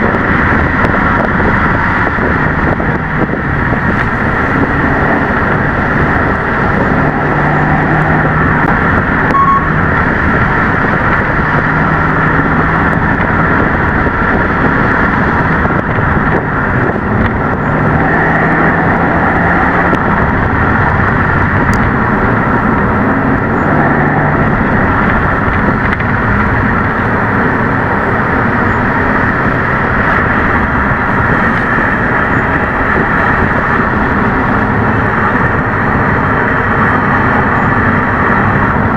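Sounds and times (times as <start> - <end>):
car engine driven hard: 0.0 - 38.9.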